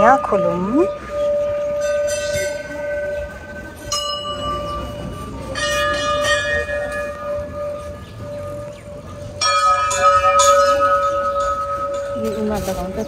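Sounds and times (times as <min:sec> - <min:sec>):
temple bells ringing: 0:00.0 - 0:13.0.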